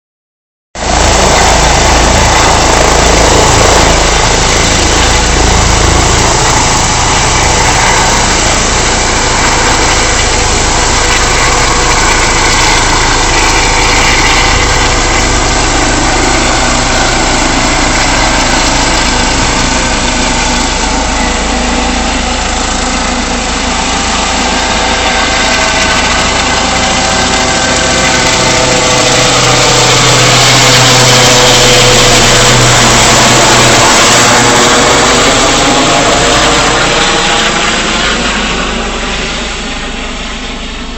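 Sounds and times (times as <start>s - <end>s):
helicopter engine and rotor: 0.8s - 40.9s.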